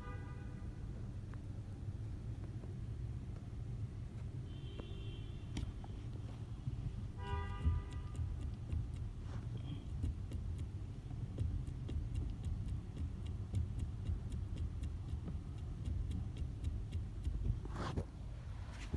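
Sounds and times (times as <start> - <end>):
car cabin rumble: 0.9 - 18.9.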